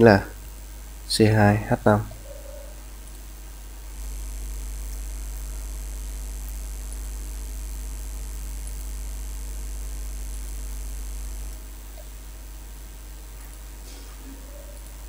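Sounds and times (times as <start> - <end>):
background hiss: 0.0 - 15.0
low electrical hum: 0.0 - 15.0.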